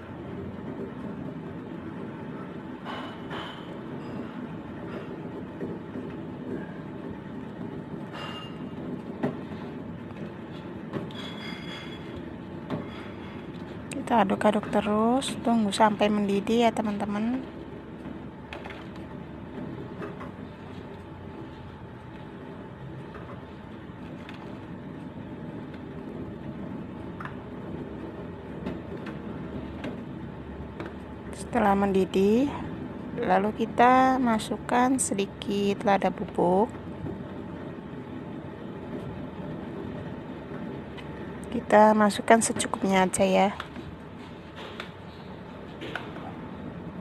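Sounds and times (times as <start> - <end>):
gas burner rumble: 0.0 - 47.0.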